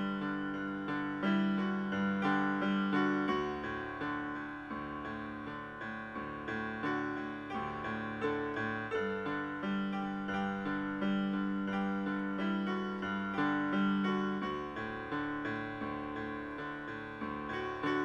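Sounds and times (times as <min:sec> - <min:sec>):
solo piano music: 0:00.0 - 0:18.0.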